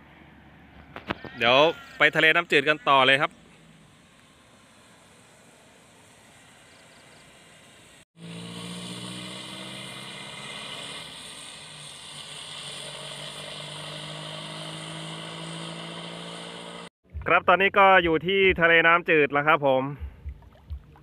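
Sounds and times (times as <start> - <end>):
road and wind noise: 0.0 - 17.4.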